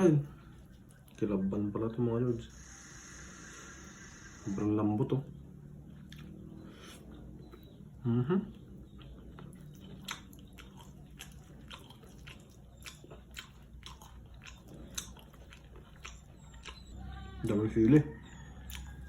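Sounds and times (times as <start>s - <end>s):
person chewing food: 0.0s - 4.6s, 5.4s - 19.0s.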